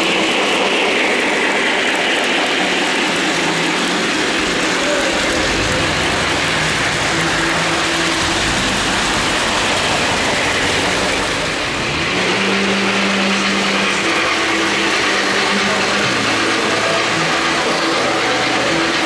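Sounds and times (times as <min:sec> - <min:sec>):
model train clattering on track: 0:00.0 - 0:19.0.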